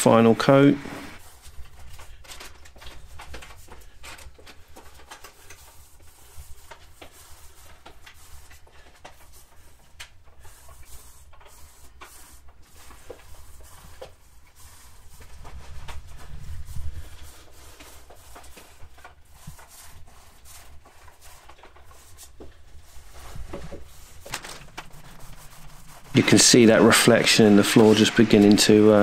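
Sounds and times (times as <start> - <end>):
roller spreading lacquer on floor: 0.1 - 29.0.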